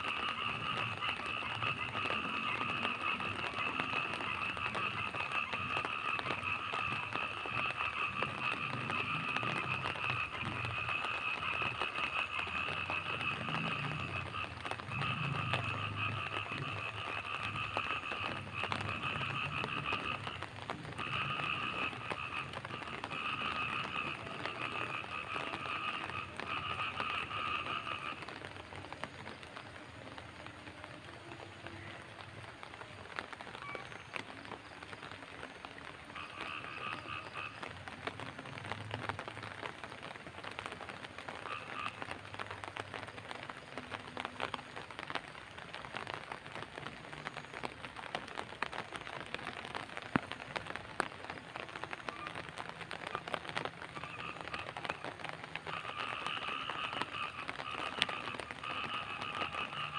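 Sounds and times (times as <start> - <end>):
frogs calling: 0.0 - 59.9
rain falling: 0.0 - 59.9.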